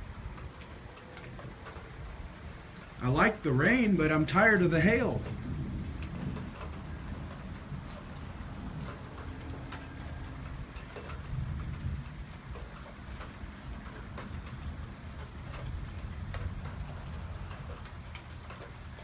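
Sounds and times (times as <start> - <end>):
heavy rain: 0.0 - 19.0
raindrops ticking on surfaces: 0.0 - 19.0.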